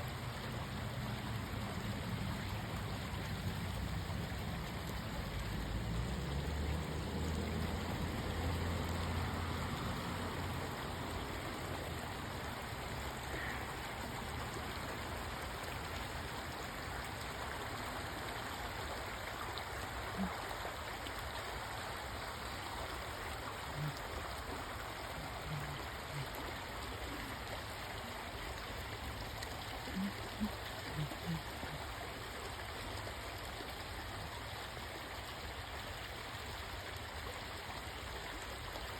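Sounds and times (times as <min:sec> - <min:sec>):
steady rushing stream noise: 0:00.0 - 0:38.9.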